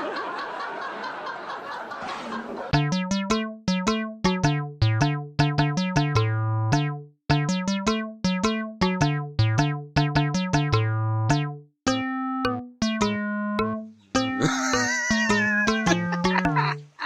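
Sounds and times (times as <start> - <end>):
bouncy synth keyboard tune: 2.7 - 17.0.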